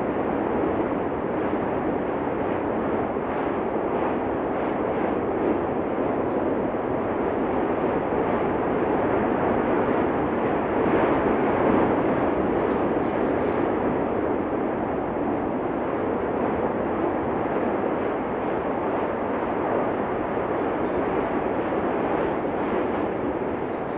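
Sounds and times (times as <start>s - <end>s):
volcanic eruption rumble: 0.0s - 23.9s.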